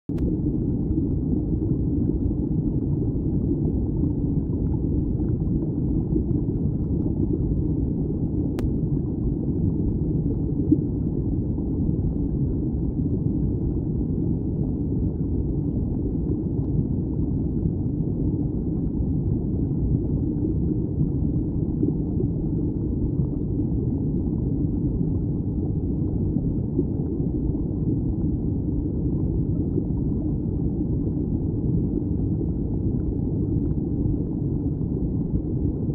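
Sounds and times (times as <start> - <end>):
muffled underwater stream rumble: 0.1 - 35.9.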